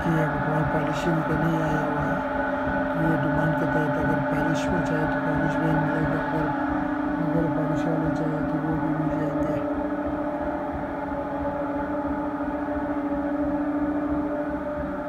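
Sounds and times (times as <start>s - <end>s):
lower wavering tone: 0.0s - 15.0s
machinery humming: 0.0s - 15.0s
whining tones: 0.0s - 15.0s.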